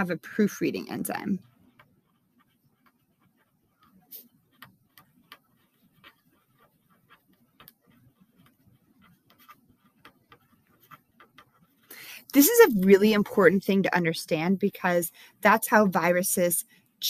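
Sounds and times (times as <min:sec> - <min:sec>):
marker writing on paper: 0:00.4 - 0:16.5.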